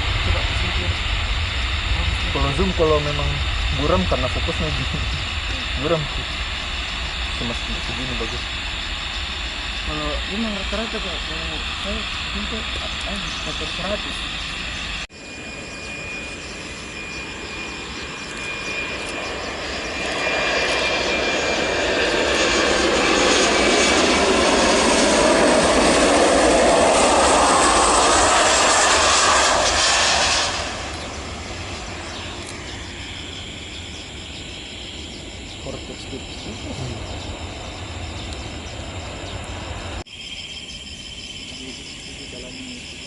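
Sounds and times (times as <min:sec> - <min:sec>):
airliner engines passing: 0:00.0 - 0:43.0.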